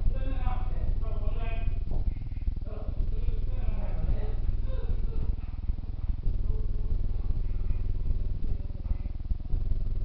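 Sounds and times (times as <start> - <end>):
motor pulsing rumble: 0.0 - 10.0.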